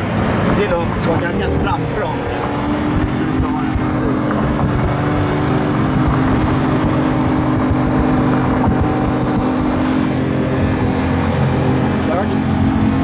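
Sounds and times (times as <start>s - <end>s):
car engine running: 0.0s - 13.0s
road and wind noise: 0.0s - 13.0s.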